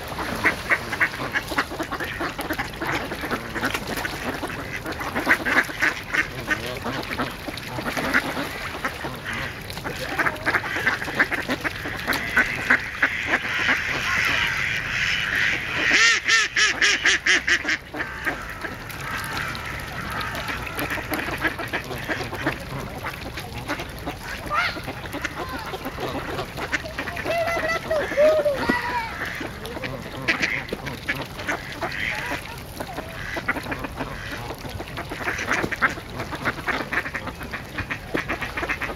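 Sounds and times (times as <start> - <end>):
ducks quacking and chattering: 0.0 - 38.9.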